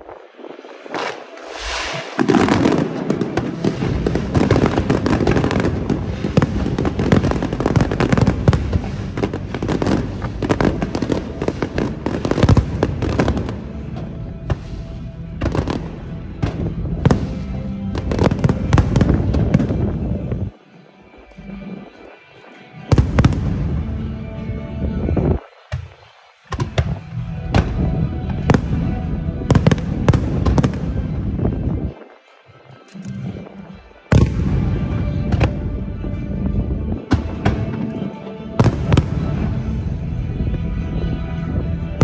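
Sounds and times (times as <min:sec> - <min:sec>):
distant fireworks bursts and crackling: 0:00.0 - 0:20.6, 0:22.8 - 0:24.4, 0:25.2 - 0:32.1, 0:33.0 - 0:36.2, 0:36.9 - 0:40.6.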